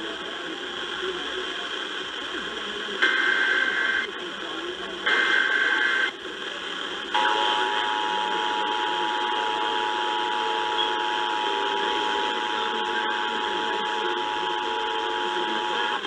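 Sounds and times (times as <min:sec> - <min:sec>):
radio hiss: 0:00.0 - 0:16.0.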